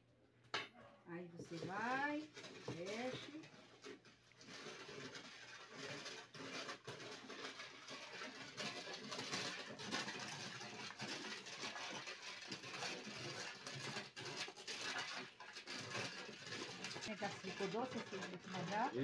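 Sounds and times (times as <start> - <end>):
spoon stirring in pot: 1.4 - 19.0.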